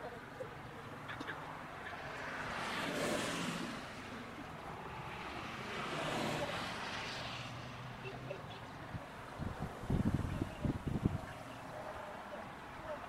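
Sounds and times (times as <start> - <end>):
vehicles passing: 0.0 - 13.0.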